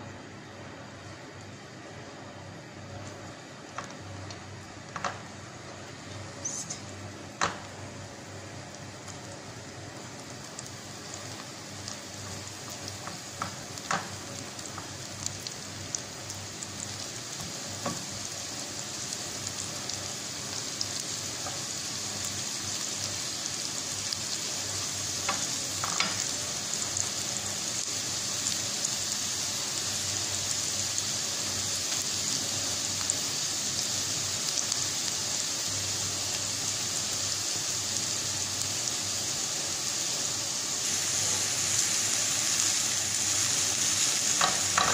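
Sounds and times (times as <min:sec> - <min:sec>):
onion sizzling in hot oil: 0:03.0 - 0:44.9.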